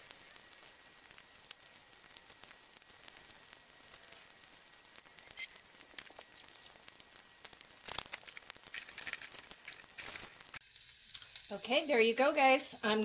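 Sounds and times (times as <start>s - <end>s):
patties sizzling in a pan: 0.0s - 13.0s.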